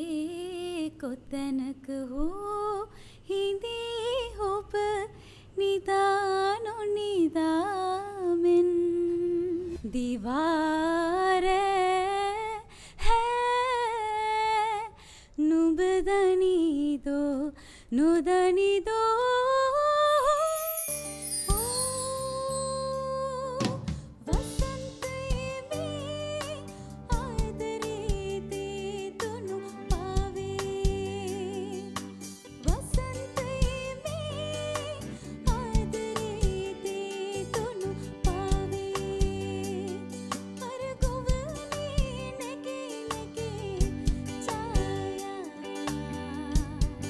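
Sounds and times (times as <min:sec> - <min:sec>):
woman singing unaccompanied: 0:00.0 - 0:20.8, 0:21.5 - 0:47.0.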